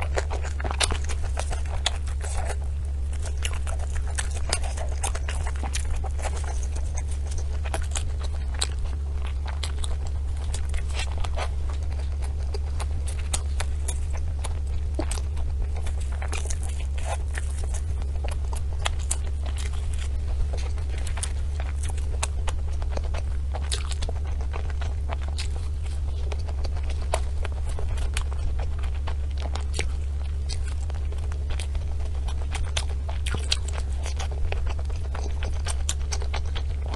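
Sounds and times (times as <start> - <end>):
eating crunches and clicks: 0.0 - 36.9
steady low hum: 0.0 - 36.9.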